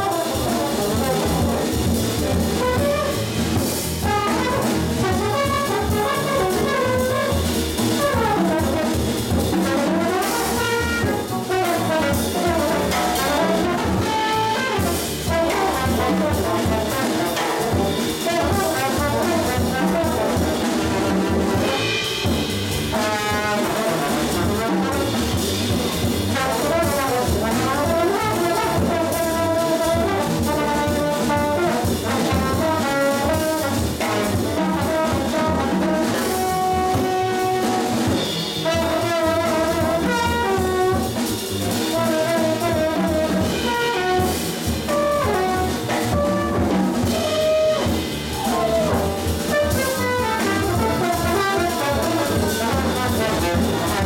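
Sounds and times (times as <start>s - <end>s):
drum kit: 0.0s - 54.0s
piano: 0.0s - 54.0s
trombone: 0.0s - 54.0s
upright bass: 0.0s - 54.0s.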